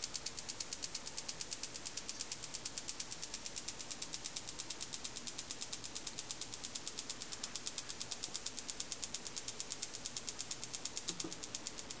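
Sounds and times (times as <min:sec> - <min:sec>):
electrostatic motor ticking: 0:00.0 - 0:12.0.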